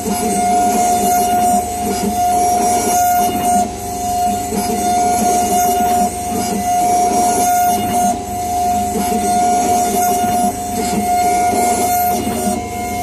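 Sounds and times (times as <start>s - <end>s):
milling machine high whine: 0.0s - 13.0s
rough grinding noise: 0.0s - 13.0s.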